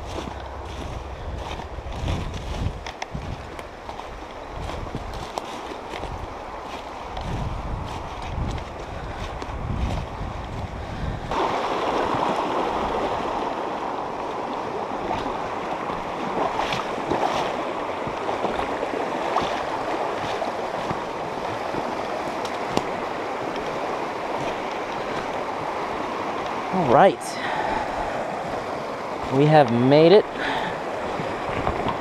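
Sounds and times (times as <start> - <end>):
creek water rushing: 0.0 - 32.0
wind rumble on microphone: 0.0 - 32.0.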